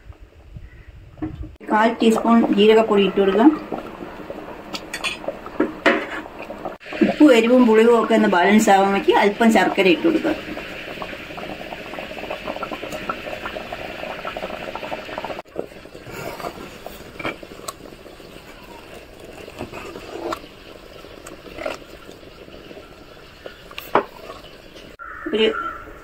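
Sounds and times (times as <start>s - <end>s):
pot bubbling on the boil: 1.2s - 25.2s.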